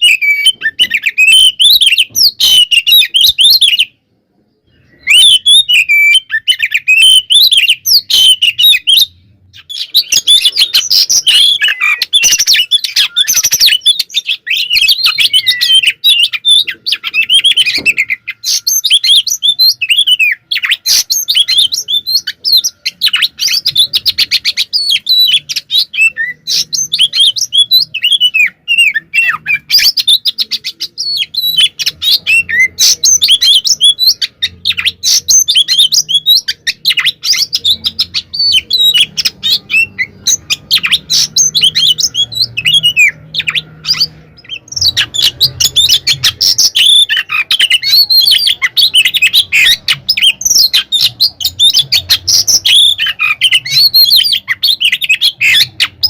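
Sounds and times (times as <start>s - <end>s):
songbird singing rapid whistles: 0.0s - 4.0s, 4.7s - 56.0s.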